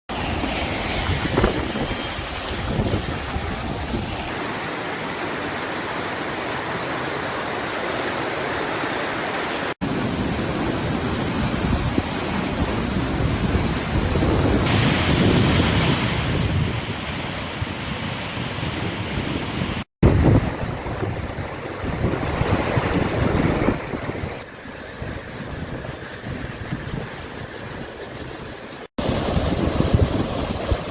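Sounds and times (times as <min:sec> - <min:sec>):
wind on microphone: 0:00.2 - 0:04.4, 0:10.1 - 0:30.9
fast-flowing river water: 0:00.2 - 0:15.3, 0:20.1 - 0:30.9.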